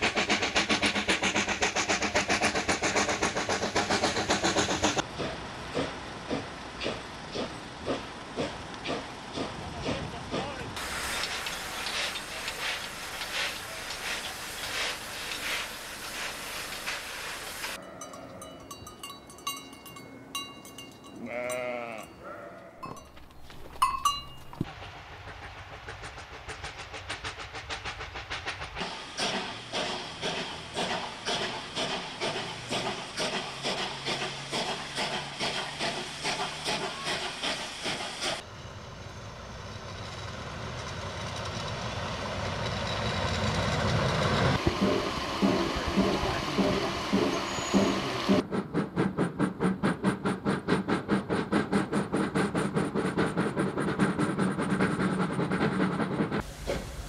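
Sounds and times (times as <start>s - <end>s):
steam locomotive chuffing: 0.0s - 17.8s, 24.0s - 57.0s.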